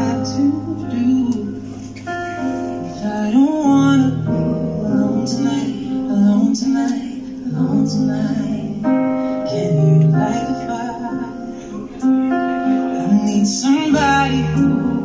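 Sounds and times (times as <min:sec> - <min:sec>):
man singing: 0:00.0 - 0:01.7, 0:02.9 - 0:15.0
keyboard: 0:00.0 - 0:15.0.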